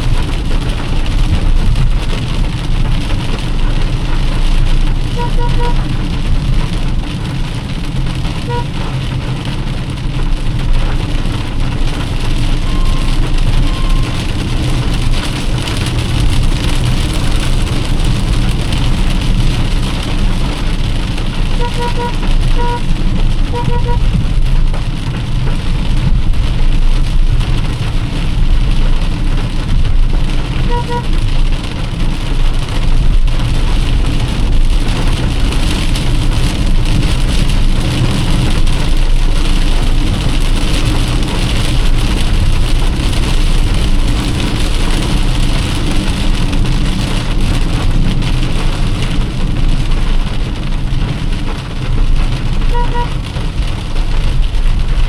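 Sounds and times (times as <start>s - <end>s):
heavy rain on a car: 0.0s - 55.0s
road and engine noise: 0.0s - 55.0s.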